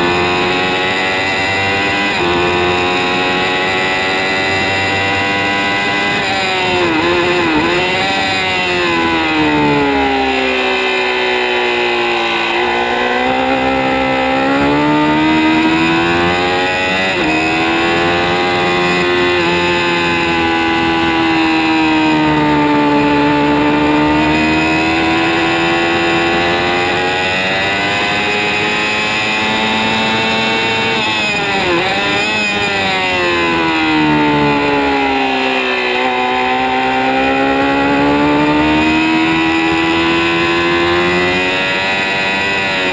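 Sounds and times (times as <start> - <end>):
motorcycle engine revving high: 0.0 - 42.9.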